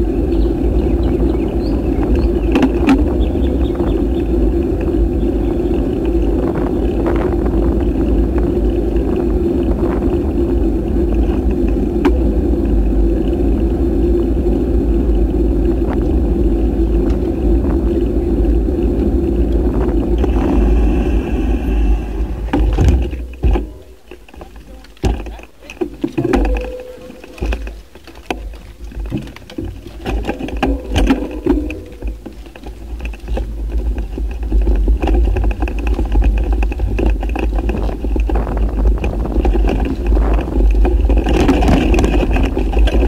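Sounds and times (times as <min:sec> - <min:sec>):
bike riding noise: 0:00.0 - 0:43.0
wind buffeting microphone: 0:00.0 - 0:43.0.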